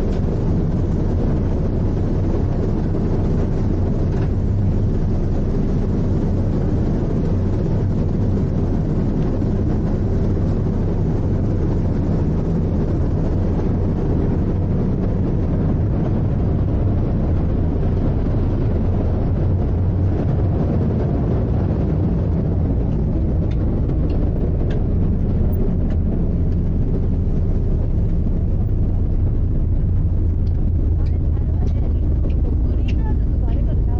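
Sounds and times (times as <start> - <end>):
ship engines droning: 0.0 - 33.9.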